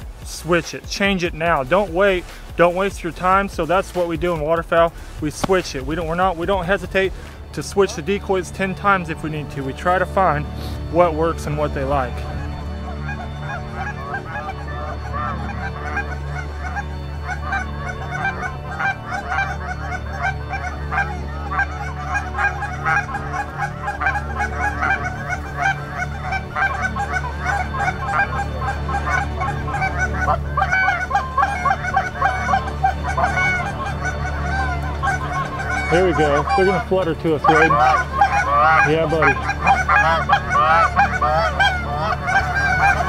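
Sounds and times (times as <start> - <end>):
geese honking: 0.0 - 43.0.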